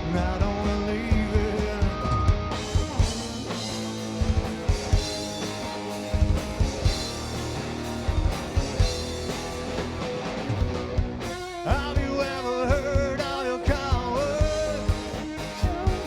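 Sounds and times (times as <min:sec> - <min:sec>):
bass guitar: 0:00.0 - 0:16.0
drum kit kick and snare: 0:00.0 - 0:16.0
electric guitar: 0:00.0 - 0:16.0.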